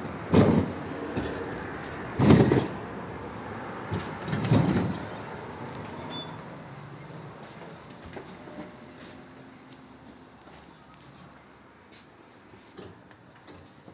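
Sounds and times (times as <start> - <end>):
steady background noise: 0.0 - 13.9.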